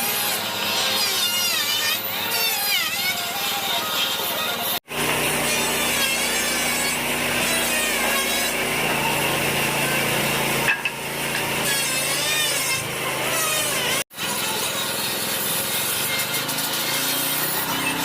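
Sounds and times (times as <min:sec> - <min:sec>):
power tool cutting wood: 0:00.0 - 0:18.0.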